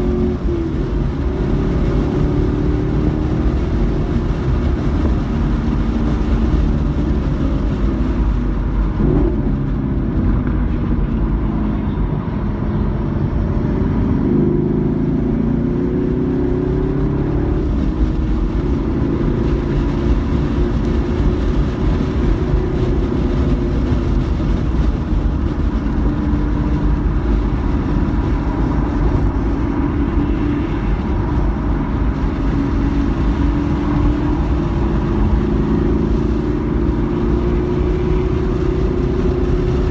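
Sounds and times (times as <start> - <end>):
car engine under load: 0.0 - 39.9
road and tyre noise: 0.0 - 39.9.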